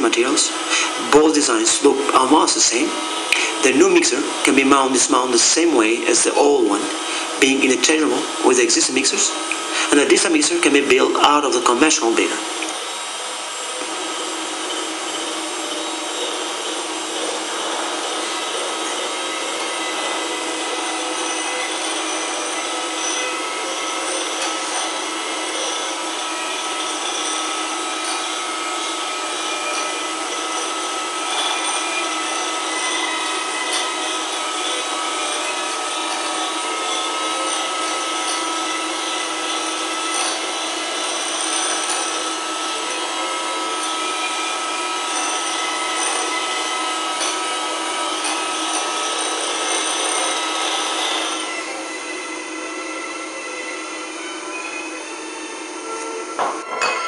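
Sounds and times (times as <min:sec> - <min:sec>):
electric hand mixer whipping: 0:00.0 - 0:56.6.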